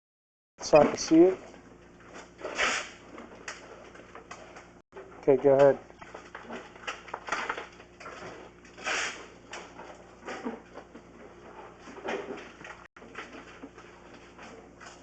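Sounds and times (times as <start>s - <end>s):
handling knocks and scrapes: 0.6s - 15.0s.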